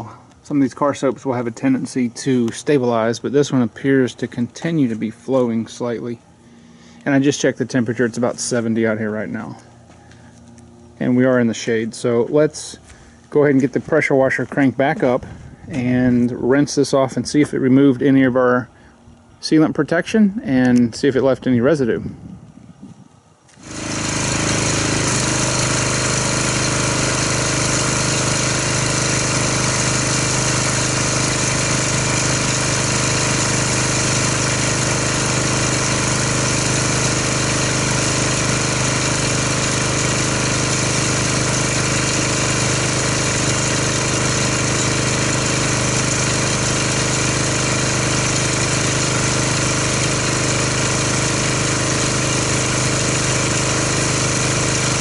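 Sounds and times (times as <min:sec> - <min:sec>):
pressure washer running: 0:00.0 - 0:16.7, 0:23.5 - 0:55.0.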